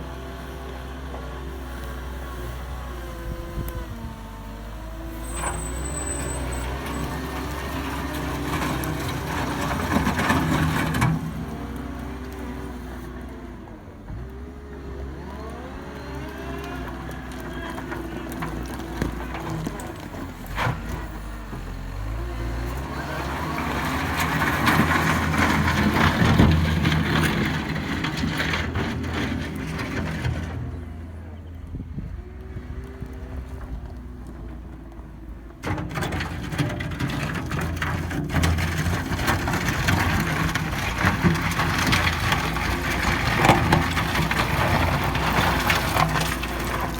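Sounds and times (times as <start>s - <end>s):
wheel loader diesel engine: 0.0s - 46.9s.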